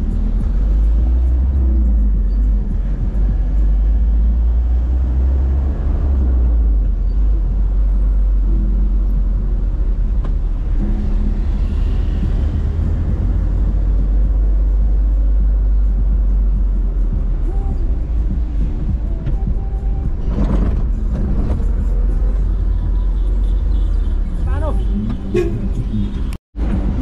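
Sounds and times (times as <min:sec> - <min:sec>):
car rumbling along road: 0:00.0 - 0:27.0.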